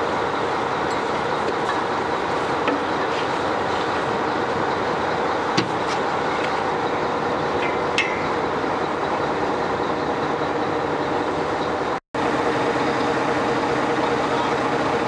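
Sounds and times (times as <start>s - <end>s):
boat engines running: 0.0s - 15.0s.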